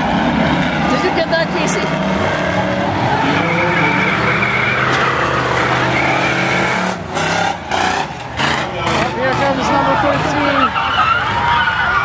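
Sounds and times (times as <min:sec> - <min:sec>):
race truck engines running hard: 0:00.0 - 0:12.0
tyres squealing and skidding: 0:00.0 - 0:12.0.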